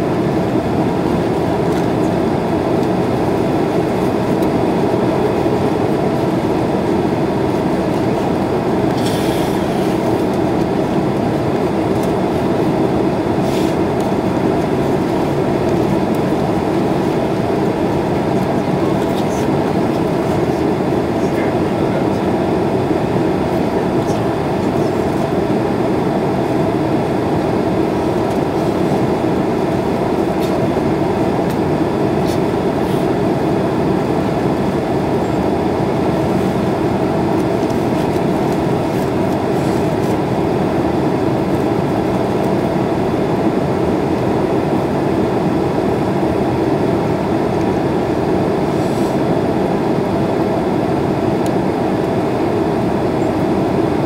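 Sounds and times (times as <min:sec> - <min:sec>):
airliner cabin engine hum: 0:00.0 - 0:54.0.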